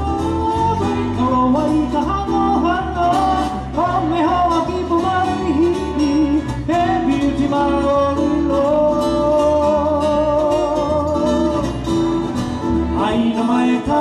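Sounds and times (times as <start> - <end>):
steady bass line: 0.0 - 14.0
strummed guitar: 0.0 - 14.0.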